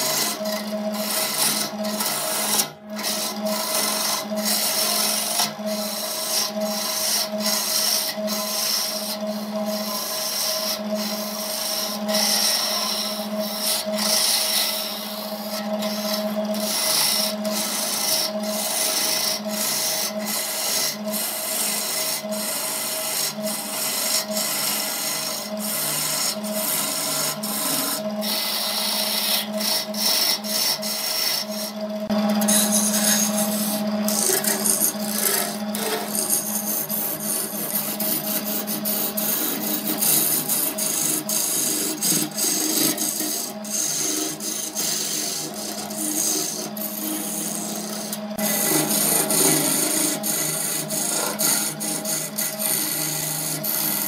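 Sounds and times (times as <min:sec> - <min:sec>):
chisel scraping wood: 0:00.0 - 0:54.0
lathe motor hum: 0:00.0 - 0:54.0.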